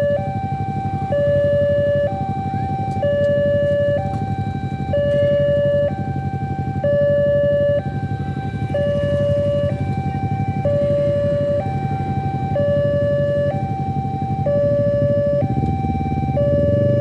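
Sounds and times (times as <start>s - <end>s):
level-crossing two-tone alarm: 0.0s - 17.0s
low engine rumble: 0.0s - 17.0s.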